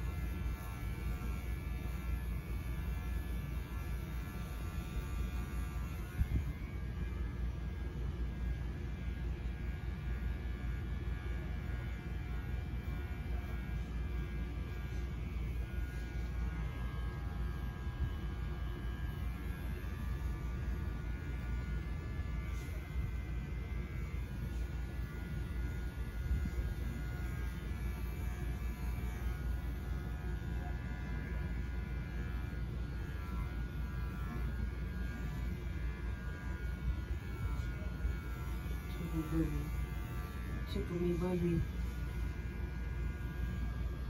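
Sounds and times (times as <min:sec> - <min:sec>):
electric clippers buzzing: 0:00.0 - 0:44.0.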